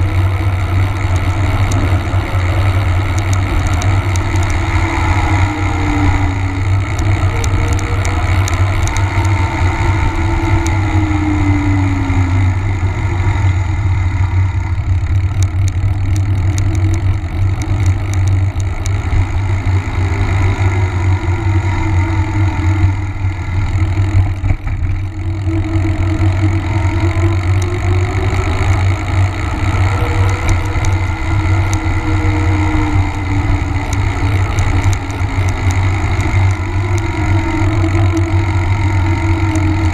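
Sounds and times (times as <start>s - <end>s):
bike tyres rolling on asphalt: 0.0s - 39.9s
faint hum: 0.0s - 39.9s.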